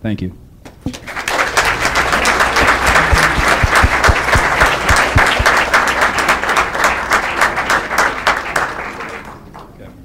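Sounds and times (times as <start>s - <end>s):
crowd applauding: 0.9s - 9.9s.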